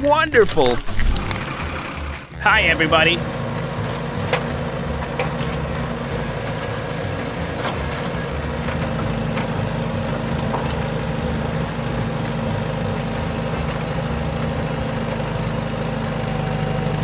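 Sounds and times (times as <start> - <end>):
motor humming: 0.7 - 17.0.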